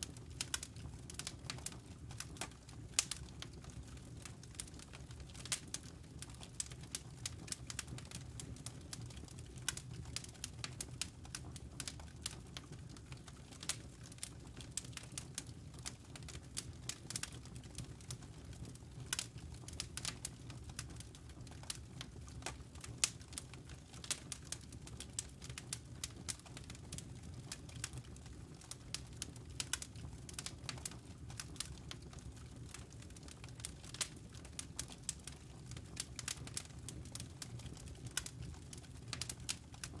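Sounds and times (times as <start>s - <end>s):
burning wood crackling and popping: 0.0s - 40.0s
low rumble of fire: 0.0s - 40.0s.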